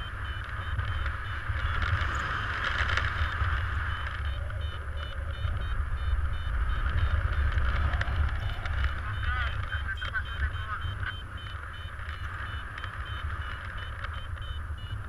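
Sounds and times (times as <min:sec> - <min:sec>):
variometer beeping: 0:00.0 - 0:15.0
wind rushing over microphone: 0:00.0 - 0:15.0.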